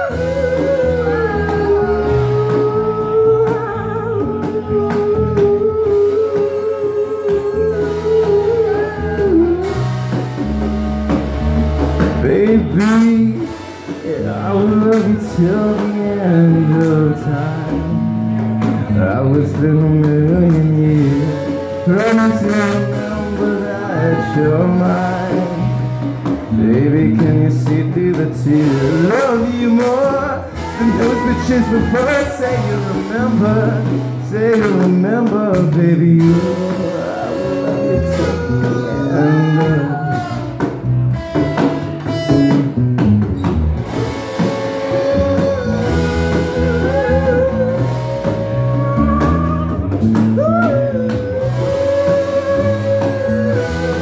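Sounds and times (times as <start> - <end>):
person singing: 0.0 - 11.2, 12.0 - 40.8, 43.9 - 54.0
live blues band playing: 0.0 - 54.0.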